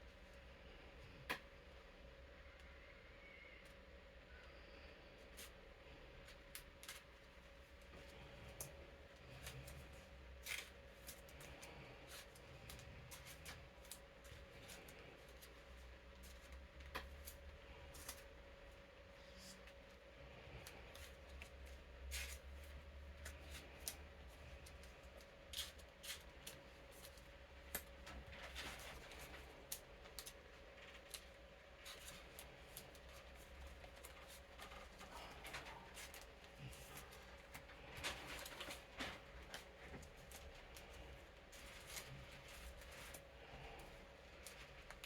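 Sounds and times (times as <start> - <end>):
electric fan humming: 0.0 - 45.0
plastic sleeves rustling: 6.2 - 18.4, 19.2 - 45.0.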